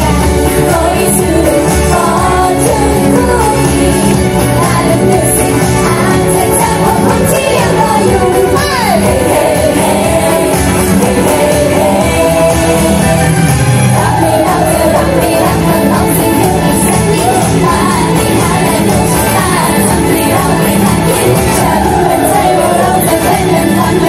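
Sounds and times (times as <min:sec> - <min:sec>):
loud pop song with singing: 0:00.0 - 0:24.0.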